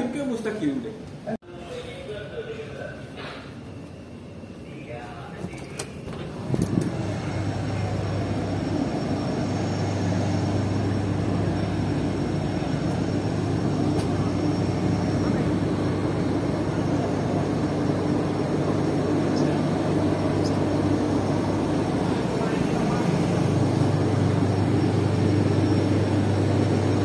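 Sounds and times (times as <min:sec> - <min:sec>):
ship engines humming: 0:03.7 - 0:27.0.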